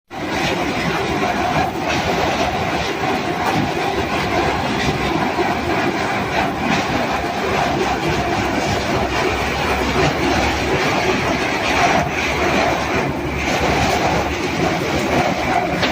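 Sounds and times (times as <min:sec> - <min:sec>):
air conditioner rattling rumble: 0:00.2 - 0:15.9.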